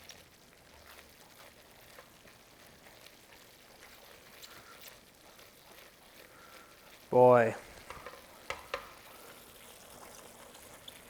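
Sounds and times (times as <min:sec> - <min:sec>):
food simmering and sizzling: 0:00.0 - 0:11.0.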